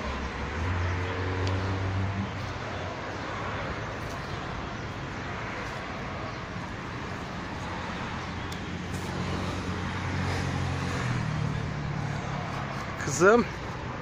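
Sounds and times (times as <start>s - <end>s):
low engine hum: 0.0s - 14.0s
traffic noise: 0.0s - 14.0s.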